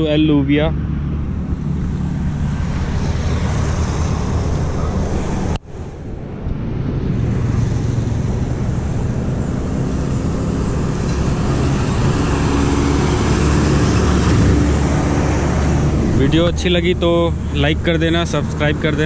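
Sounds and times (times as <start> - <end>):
road traffic hum: 0.0 - 19.0
truck passing: 0.0 - 19.0.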